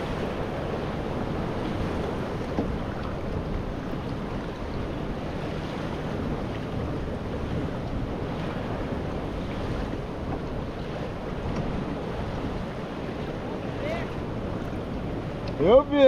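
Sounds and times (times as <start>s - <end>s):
rough sea washing: 0.0s - 16.0s
wind buffeting microphone: 0.0s - 16.0s.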